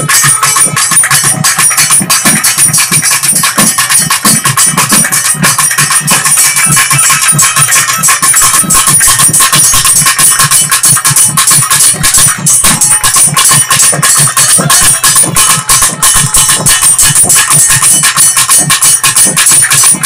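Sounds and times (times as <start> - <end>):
clashing metal percussion: 0.0 - 20.0
drums beaten fast: 0.0 - 20.0.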